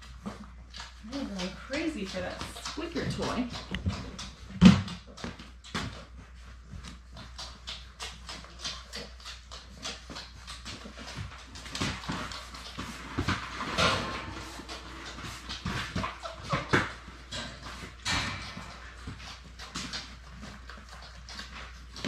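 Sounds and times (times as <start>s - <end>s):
puppies suckling: 0.0s - 22.0s.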